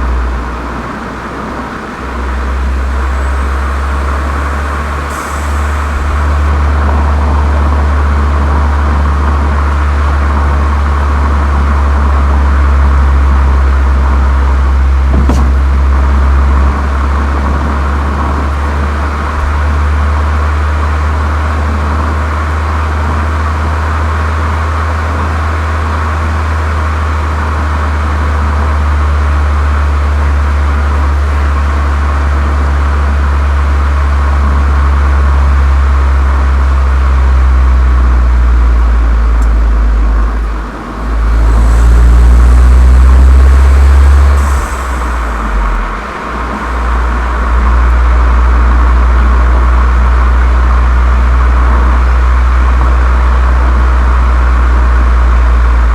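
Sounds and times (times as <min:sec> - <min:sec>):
car engine low drone: 0:00.0 - 0:55.9.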